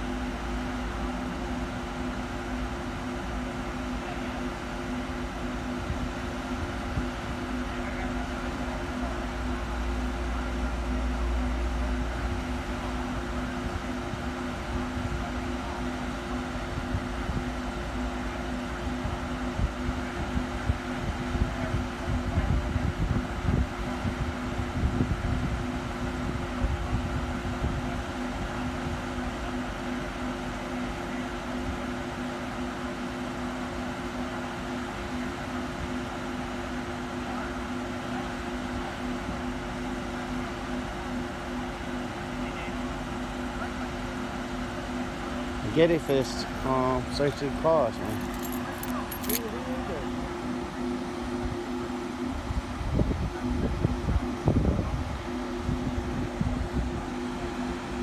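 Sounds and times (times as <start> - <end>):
mechanical hum with tones: 0.0 - 58.0.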